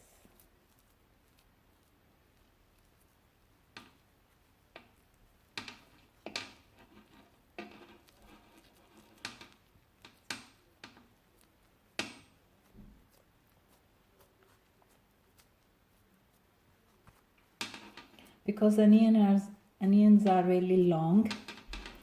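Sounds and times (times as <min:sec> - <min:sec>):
rustling: 0:00.0 - 0:22.0.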